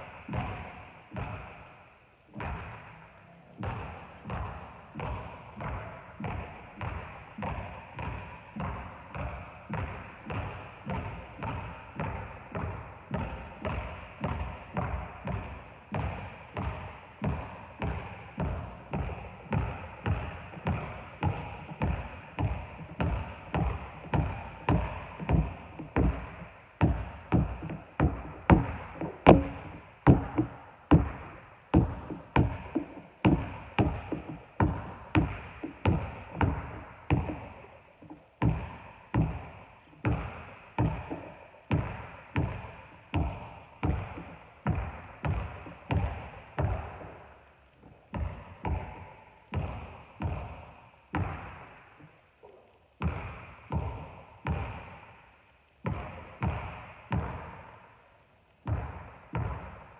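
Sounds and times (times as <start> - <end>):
basketball bouncing on wooden floor: 0.1 - 1.7, 2.3 - 55.2, 55.8 - 57.8, 58.6 - 59.9.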